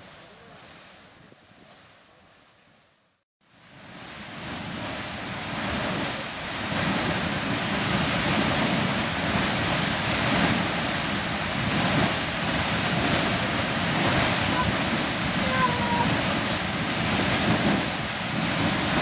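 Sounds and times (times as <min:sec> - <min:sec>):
geyser erupting with rushing hiss: 0:03.6 - 0:19.0.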